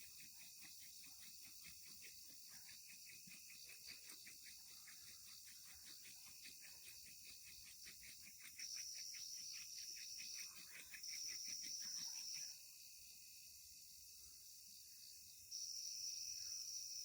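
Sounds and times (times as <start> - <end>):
high buzzing insect trill: 0.0 - 17.0
insects pulsing chirp: 0.0 - 17.0.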